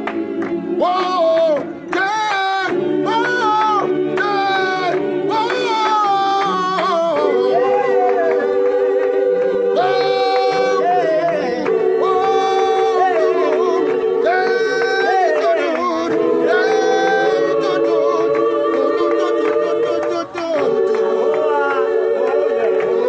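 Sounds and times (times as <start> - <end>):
choir singing a cappella: 0.0 - 23.0.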